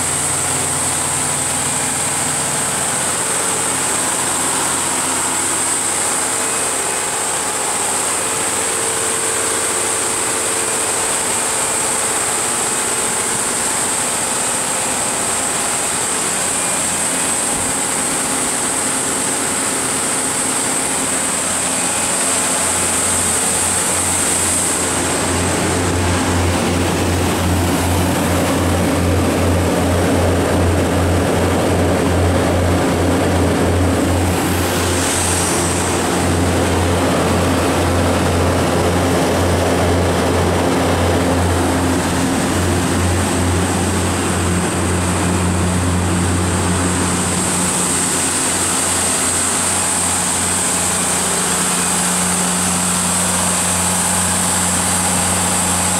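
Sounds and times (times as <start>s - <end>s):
diesel generator running: 0.0s - 55.9s
high steady whine: 0.0s - 55.9s.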